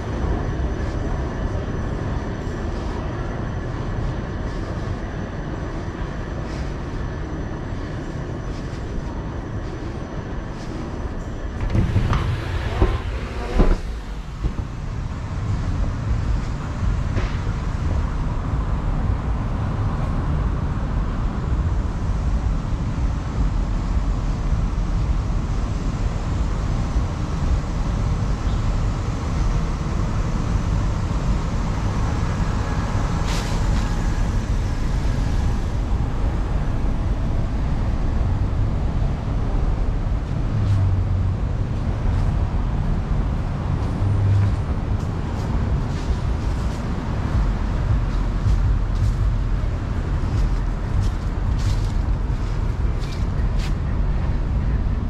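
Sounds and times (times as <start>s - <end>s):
city road traffic rumble: 0.0s - 55.0s.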